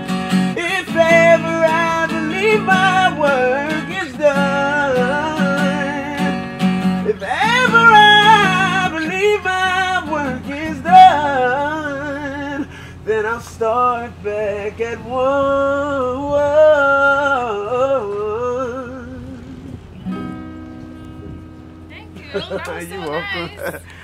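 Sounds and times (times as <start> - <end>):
man singing with vibrato: 0.0 - 19.9, 22.3 - 23.8.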